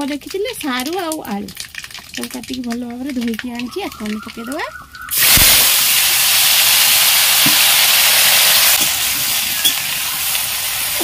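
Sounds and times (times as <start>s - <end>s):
oil popping: 0.0s - 11.0s
vegetables sizzling in hot oil: 0.0s - 11.0s.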